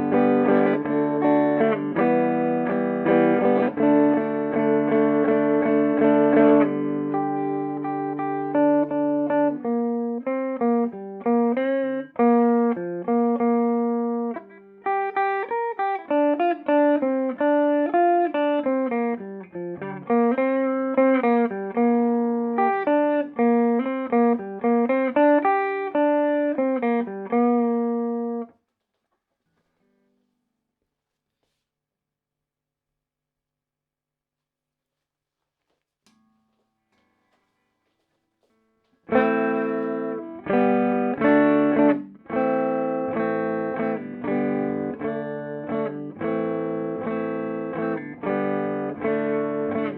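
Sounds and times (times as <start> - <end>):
clean electric guitar: 0.0 - 28.6, 36.1 - 49.9.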